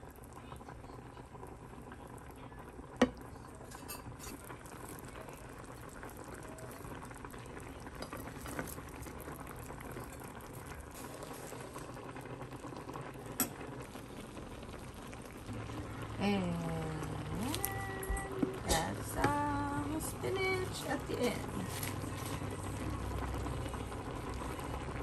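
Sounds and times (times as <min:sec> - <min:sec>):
sauce simmering and bubbling in a pan: 0:00.0 - 0:25.0.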